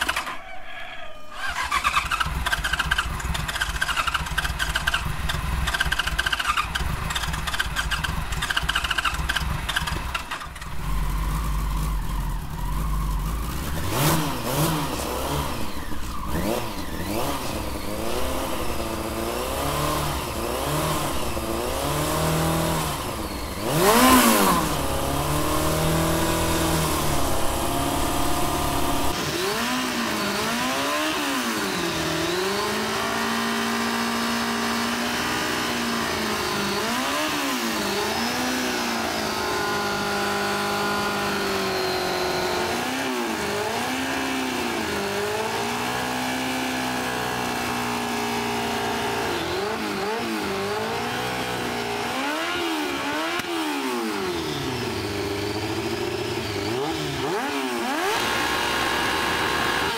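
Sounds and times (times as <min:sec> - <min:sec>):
motorcycle engine revving: 0:00.0 - 0:00.4, 0:01.4 - 0:59.9.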